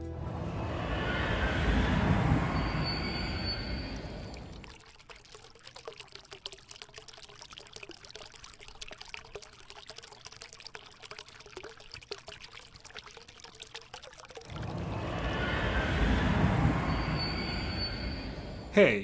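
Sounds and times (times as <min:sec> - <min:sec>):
fountain water trickling: 0:02.4 - 0:18.7.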